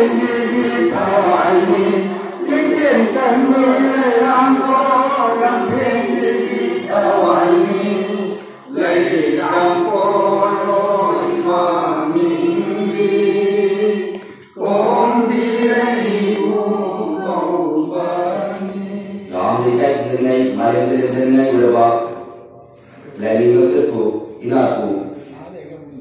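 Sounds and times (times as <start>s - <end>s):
men chanting a hymn: 0.0s - 25.2s.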